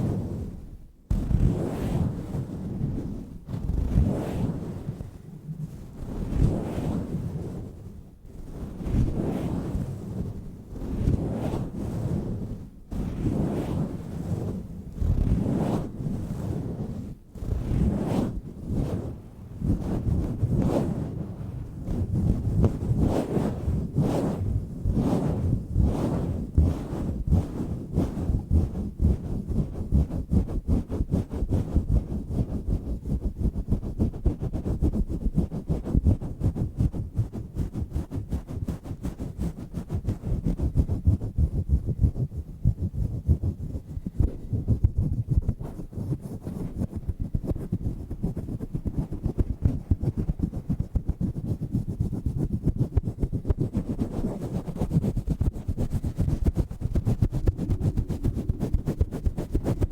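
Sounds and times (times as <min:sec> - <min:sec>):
hands rubbing microphone cover: 0:08.4 - 0:59.9.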